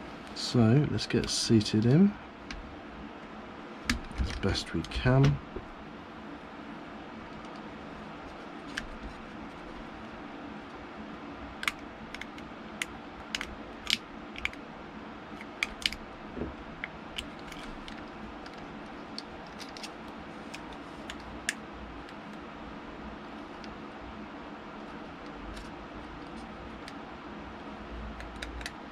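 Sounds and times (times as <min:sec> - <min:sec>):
steady background hiss: 0:00.0 - 0:28.9.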